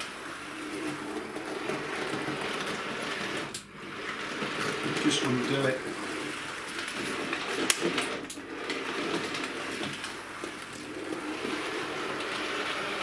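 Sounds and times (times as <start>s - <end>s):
model train motor whirring: 0.0s - 13.0s
wheels clicking over rail joints: 0.0s - 13.0s.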